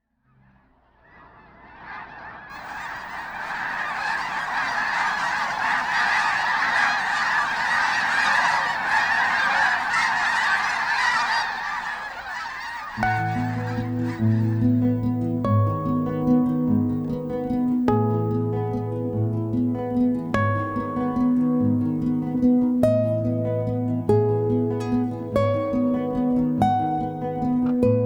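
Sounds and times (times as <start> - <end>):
flock of geese honking: 1.8 - 28.0.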